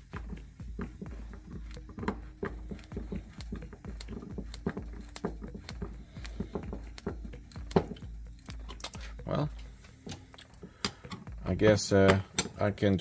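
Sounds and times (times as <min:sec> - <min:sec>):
screwdriver clicks and creaks: 0:00.3 - 0:11.3.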